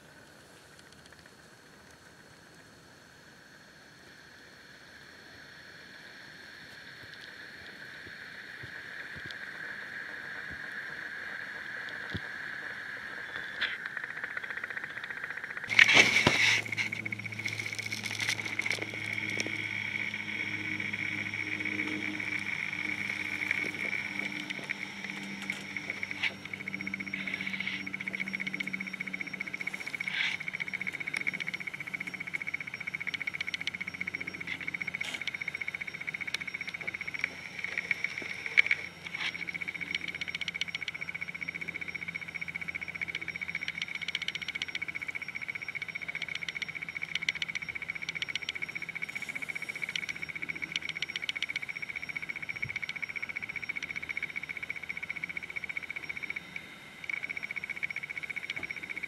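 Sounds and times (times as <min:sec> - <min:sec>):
frogs trilling: 0:00.0 - 0:59.0
rapid clicking of frogs: 0:00.0 - 0:59.0.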